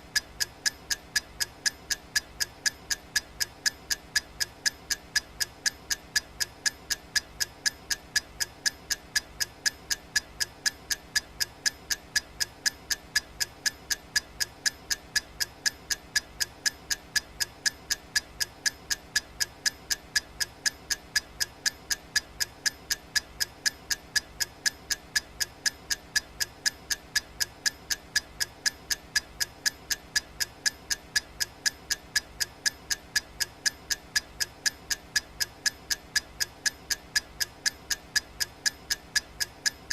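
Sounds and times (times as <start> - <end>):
clock ticking: 0.1 - 39.9.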